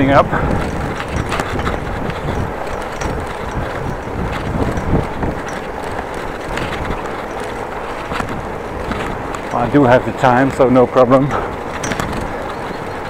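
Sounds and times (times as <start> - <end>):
bicycle tyre and road noise: 0.0 - 13.0
bike clicks and rattles: 0.0 - 13.0
wind rushing over microphone: 0.0 - 13.0.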